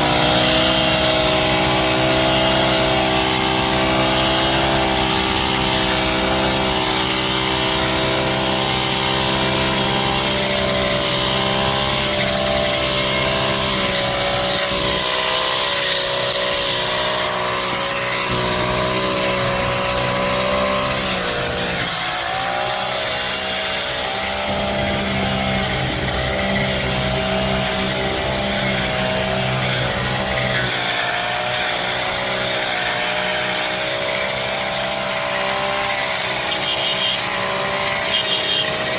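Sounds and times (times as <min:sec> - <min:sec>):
brush cutter engine running: 0:00.0 - 0:38.9.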